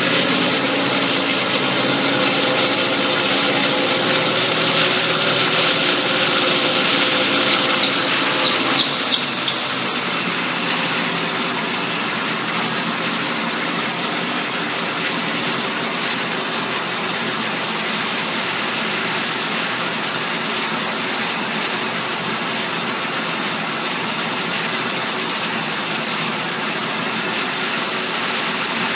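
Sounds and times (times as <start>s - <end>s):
motorized bicycle engine running: 0.0s - 28.9s.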